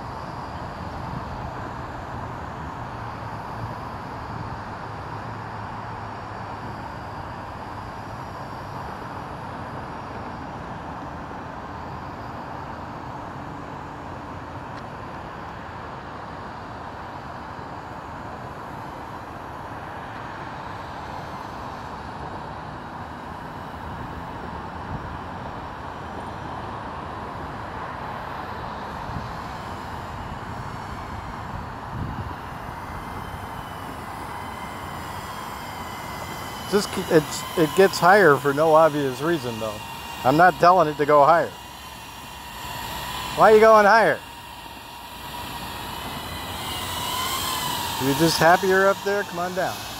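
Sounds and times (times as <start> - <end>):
drone propellers humming: 0.0 - 49.9
faint wavering whines: 0.0 - 49.9
outdoor noise: 0.0 - 49.9.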